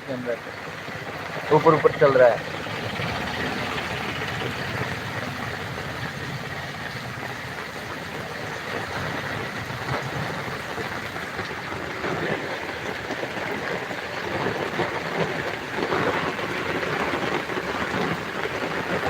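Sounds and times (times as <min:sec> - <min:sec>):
heavy rain pouring: 0:00.0 - 0:19.0
water rushing: 0:00.0 - 0:19.0.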